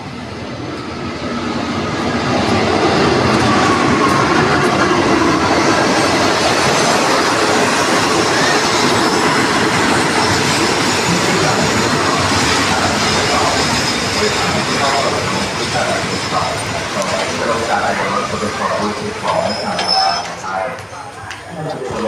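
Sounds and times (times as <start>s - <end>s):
train wheels rumbling over rails: 0.0s - 22.0s.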